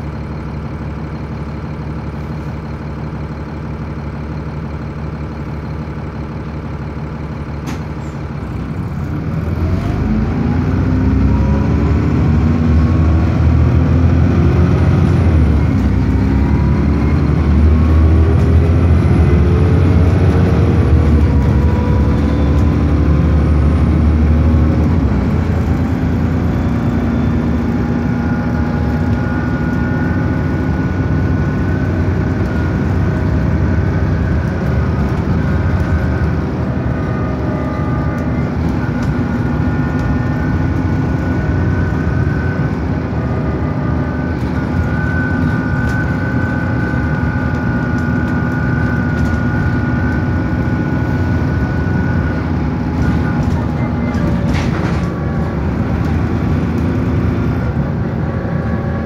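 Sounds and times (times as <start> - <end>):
bus engine rumble: 0.0 - 59.0
transmission whine: 11.7 - 59.0.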